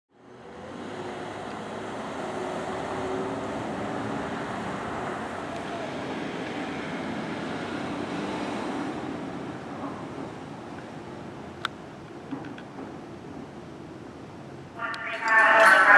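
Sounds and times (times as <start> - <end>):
road traffic passing: 0.1 - 15.9.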